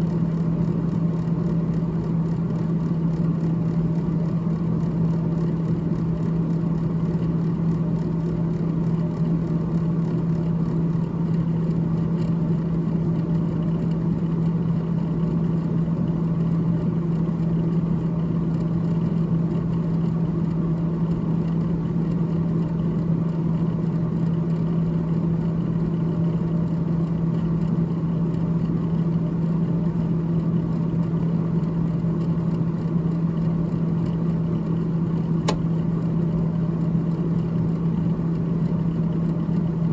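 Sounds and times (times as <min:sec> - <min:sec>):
refrigerator fan humming: 0:00.0 - 0:39.9.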